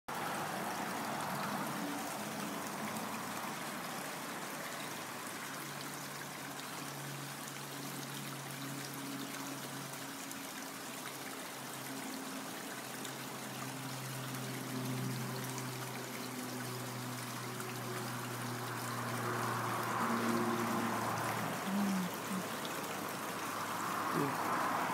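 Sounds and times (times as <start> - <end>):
brook trickling: 0.1 - 24.9.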